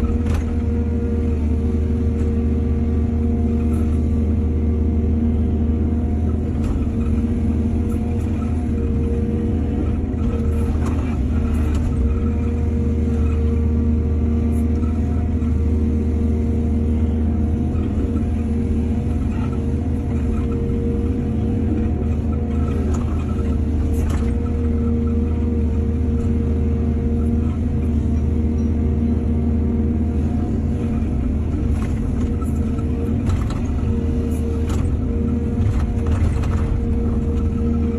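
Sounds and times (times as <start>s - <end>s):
diesel engine under load: 0.0s - 37.9s.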